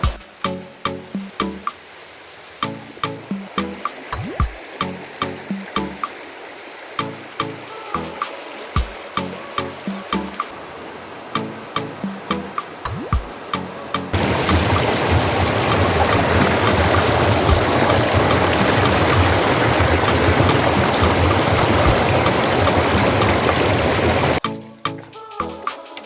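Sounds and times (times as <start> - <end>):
background music beat: 0.0 - 1.9, 2.6 - 6.2, 7.0 - 10.5, 11.4 - 26.0
river water rushing: 0.0 - 24.4.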